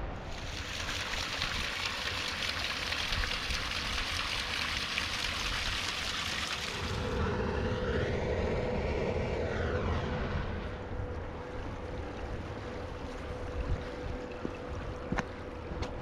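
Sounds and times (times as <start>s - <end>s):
deep rumble with hum: 0.0s - 16.0s.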